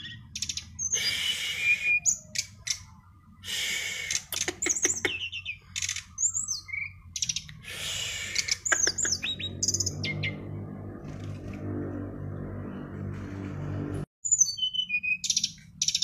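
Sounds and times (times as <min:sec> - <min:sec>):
songbird singing: 0:00.0 - 0:11.5, 0:14.2 - 0:16.0.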